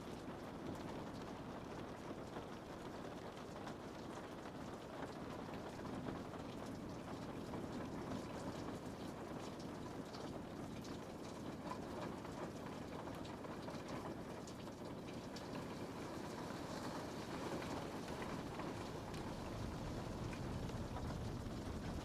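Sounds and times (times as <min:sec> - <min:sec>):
rain on a window: 0:00.0 - 0:22.0.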